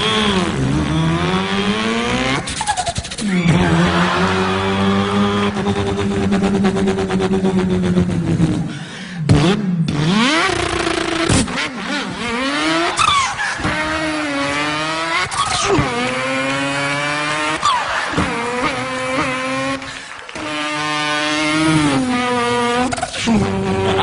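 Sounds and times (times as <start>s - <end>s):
man imitating car engine: 0.0s - 24.0s.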